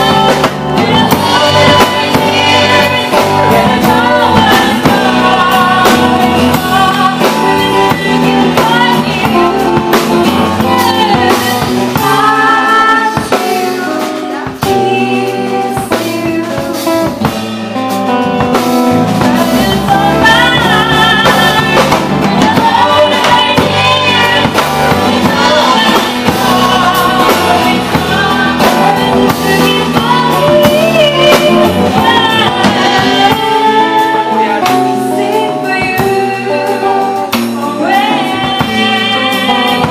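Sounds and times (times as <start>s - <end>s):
person singing: 0.0s - 17.5s, 18.4s - 39.9s
drum kit: 0.0s - 39.9s.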